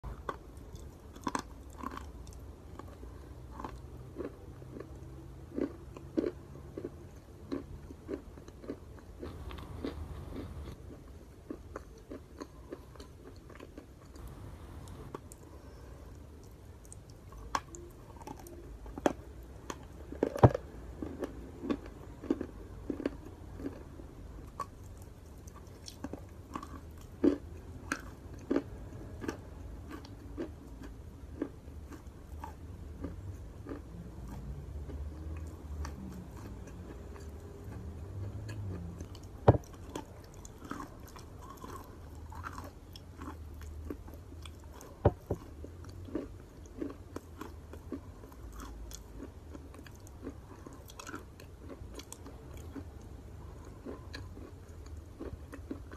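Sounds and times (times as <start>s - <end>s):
person chewing: 0.0s - 55.9s.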